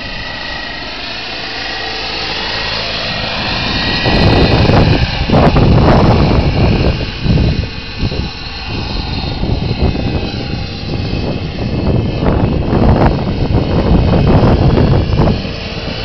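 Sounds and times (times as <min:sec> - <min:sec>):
gas-turbine engine whine: 0:00.0 - 0:16.0
rotor blades rushing: 0:00.0 - 0:16.0.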